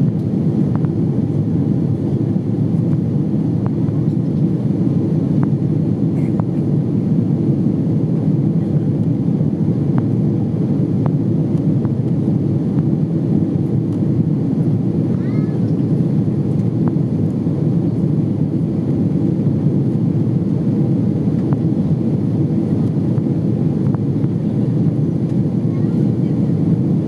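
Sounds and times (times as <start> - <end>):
airliner cabin engine drone: 0.0 - 27.0.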